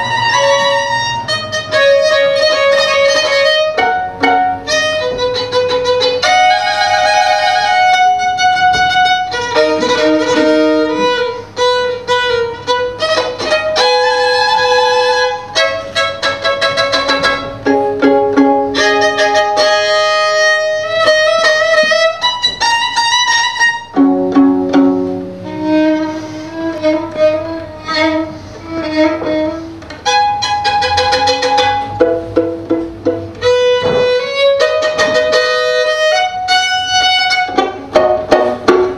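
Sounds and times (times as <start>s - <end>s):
solo violin playing: 0.0s - 38.9s.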